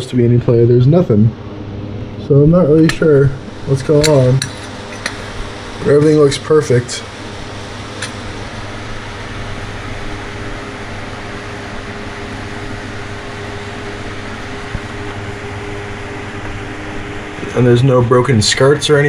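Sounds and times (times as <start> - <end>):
fan humming and hissing: 0.0 - 19.0.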